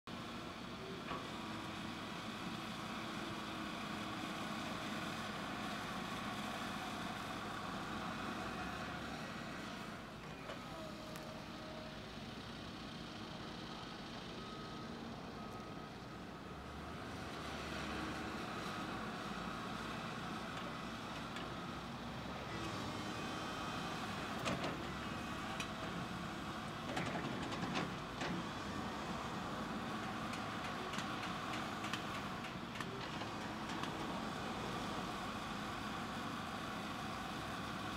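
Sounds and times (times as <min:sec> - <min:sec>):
excavator diesel engine running: 0:00.1 - 0:37.9.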